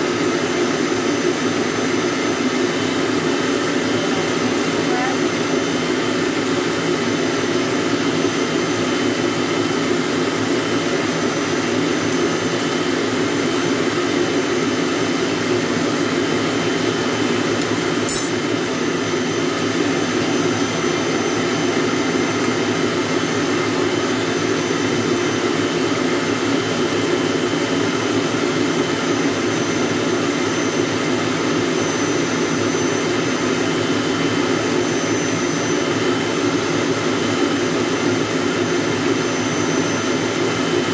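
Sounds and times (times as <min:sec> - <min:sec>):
stand mixer running: 0:00.0 - 0:40.9.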